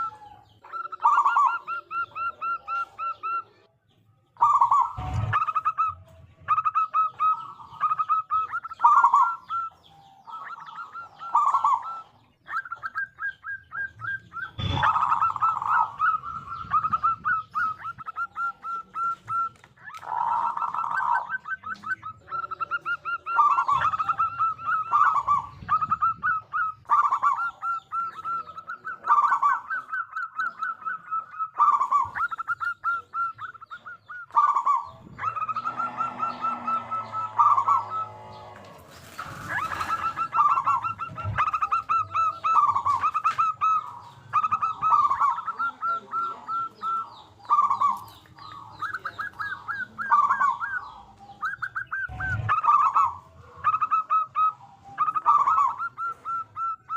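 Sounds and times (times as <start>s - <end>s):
dove cooing: 0.0s - 3.7s, 4.4s - 56.9s.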